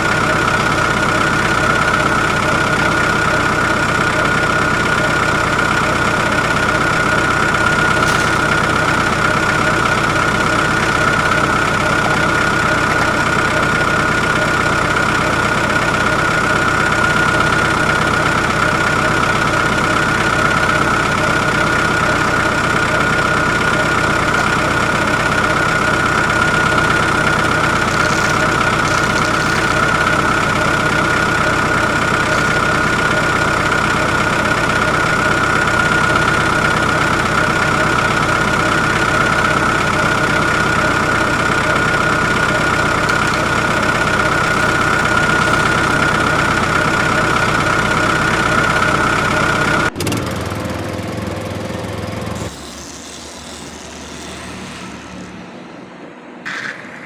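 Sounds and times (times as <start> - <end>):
small motor whining: 0.0 - 50.1.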